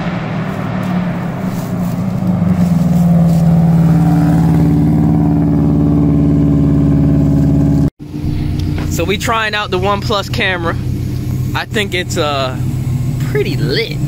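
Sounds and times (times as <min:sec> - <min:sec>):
car engine driving past: 0:00.0 - 0:13.2.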